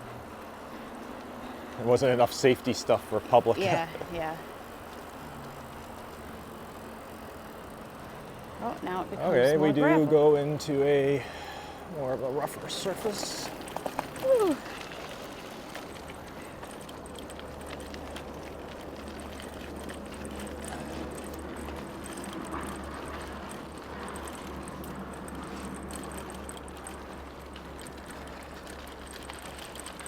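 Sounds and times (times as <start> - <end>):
bicycle tyres crunching on gravel: 0.0 - 8.6, 9.4 - 30.0.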